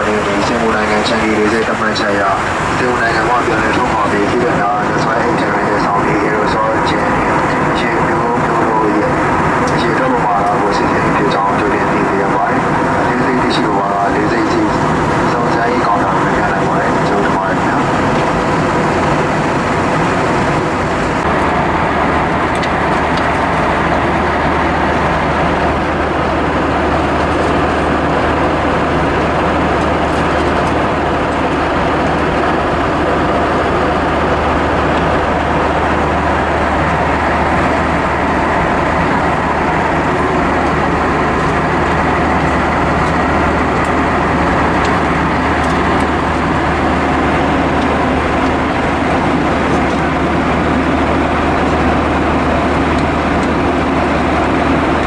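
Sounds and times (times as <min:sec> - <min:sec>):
aircraft engines droning: 0:00.0 - 0:55.0
low hum: 0:00.0 - 0:55.0.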